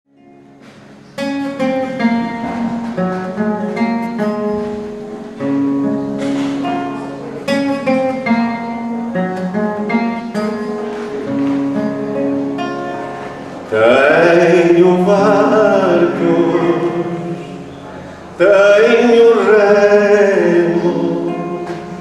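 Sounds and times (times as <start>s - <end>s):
solo classical guitar: 0.1s - 22.0s.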